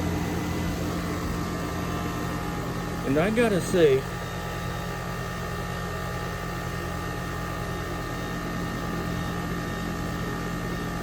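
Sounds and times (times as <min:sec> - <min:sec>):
air conditioner compressor humming: 0:00.0 - 0:11.0
condenser fan rushing: 0:00.0 - 0:11.0.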